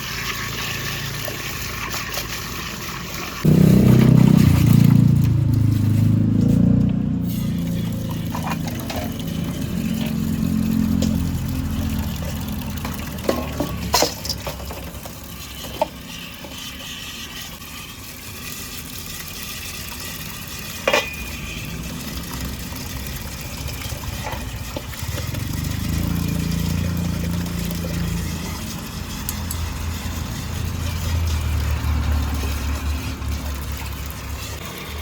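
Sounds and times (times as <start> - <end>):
metal utensils clanking: 0.3 - 17.3, 18.8 - 35.0
low engine rumble: 3.4 - 16.0, 19.0 - 35.0.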